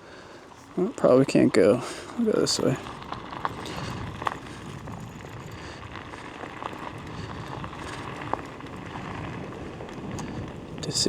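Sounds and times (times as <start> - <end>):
scooter tyres on dirt trail: 0.0 - 11.0.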